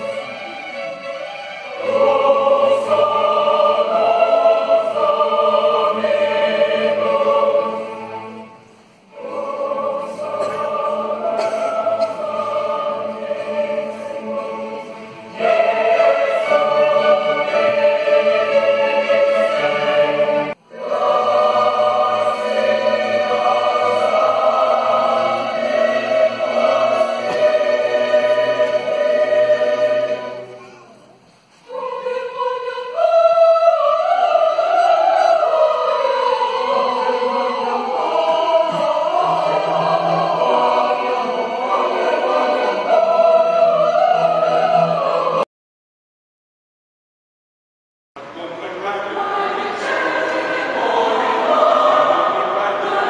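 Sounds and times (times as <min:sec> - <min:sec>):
mixed choir singing: 0:00.0 - 0:30.7, 0:31.4 - 0:45.5, 0:48.3 - 0:53.0
symphony orchestra: 0:00.0 - 0:45.4.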